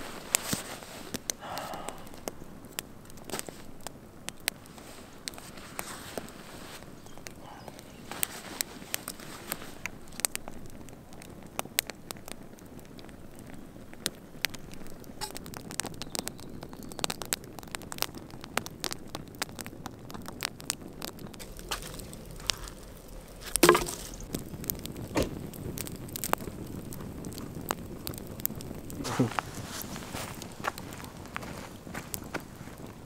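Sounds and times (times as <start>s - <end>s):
campfire crackling and popping: 0.0s - 33.0s
soft hiss of flame: 0.0s - 33.0s.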